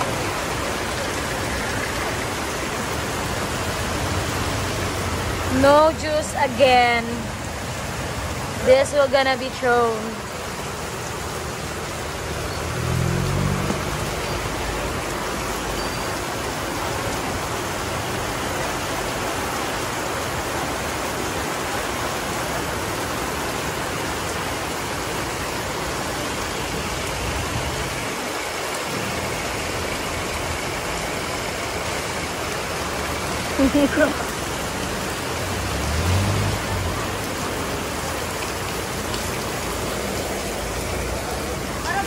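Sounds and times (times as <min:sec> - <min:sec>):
heavy rain on a street: 0:00.0 - 0:42.0.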